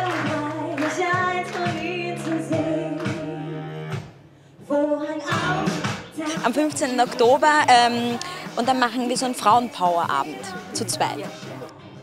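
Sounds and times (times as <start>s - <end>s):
woman singing into a microphone: 0.0s - 3.7s, 4.6s - 11.7s
instrumental backing music: 0.0s - 12.0s.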